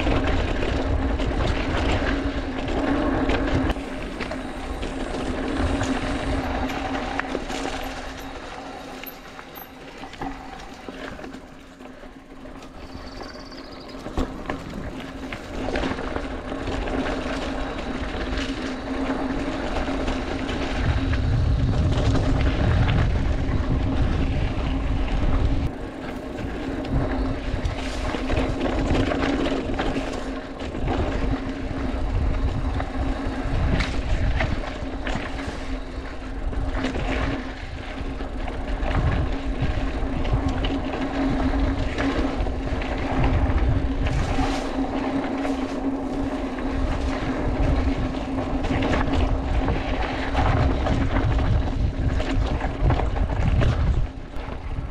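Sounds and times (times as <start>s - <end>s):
bike clattering over bumps: 0.0s - 54.9s
low hum: 0.0s - 54.9s
wind buffeting microphone: 0.0s - 54.9s.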